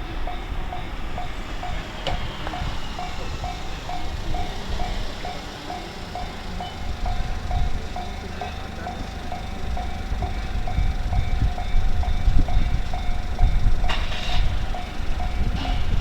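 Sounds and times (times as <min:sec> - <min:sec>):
level crossing alarm clanging: 0:00.0 - 0:16.0
train rumbling past: 0:00.0 - 0:16.0.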